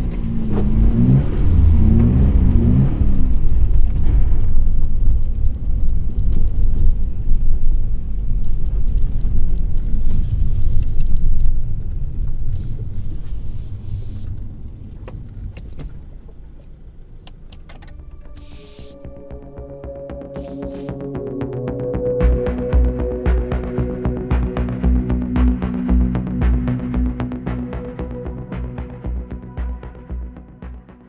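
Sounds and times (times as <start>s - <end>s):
car engine rumble from inside: 0.0s - 30.7s.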